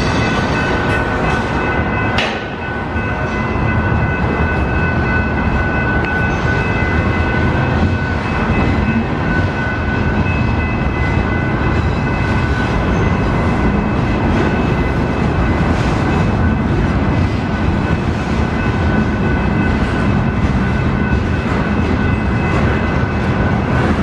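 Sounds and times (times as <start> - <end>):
high-pitched ringing tones: 0.0 - 24.0
train wheels rumbling on rail: 0.0 - 24.0.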